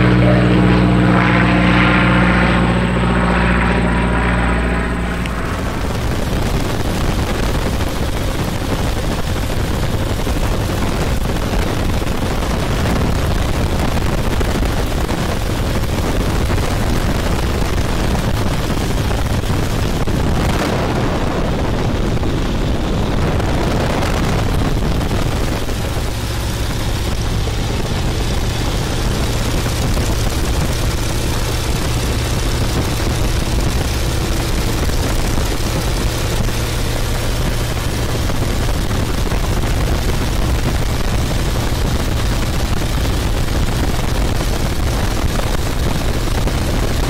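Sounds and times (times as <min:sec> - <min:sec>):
airplane engine and propeller drone: 0:00.0 - 0:47.0
wind buffeting microphone: 0:00.0 - 0:47.0.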